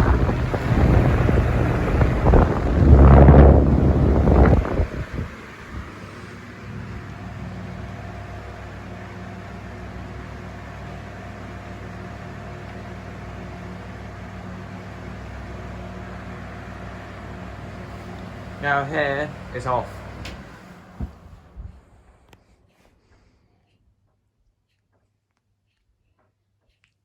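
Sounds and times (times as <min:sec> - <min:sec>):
ceiling fans running: 0:00.0 - 0:23.4.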